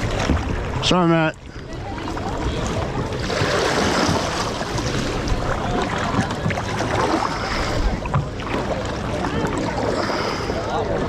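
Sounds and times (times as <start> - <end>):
water splashing around kayak: 0.0 - 11.0.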